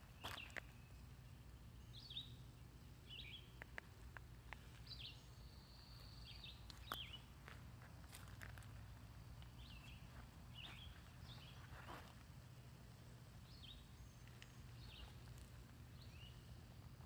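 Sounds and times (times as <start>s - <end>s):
low steady background rumble: 0.0s - 17.0s
songbird chirping: 0.0s - 17.0s.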